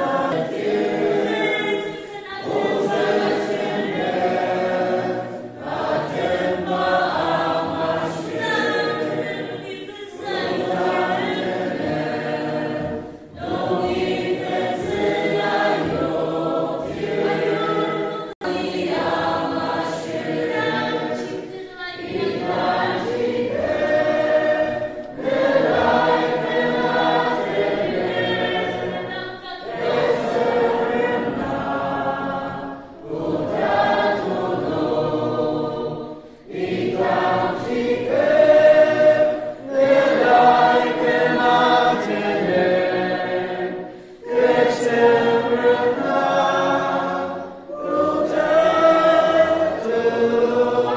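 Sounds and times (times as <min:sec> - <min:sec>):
choir singing a hymn: 0:00.0 - 0:50.9.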